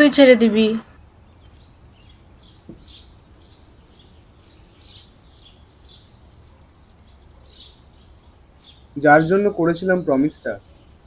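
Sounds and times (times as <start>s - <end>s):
low outdoor hum: 0.0s - 11.0s
faint bird chirps: 0.7s - 11.0s.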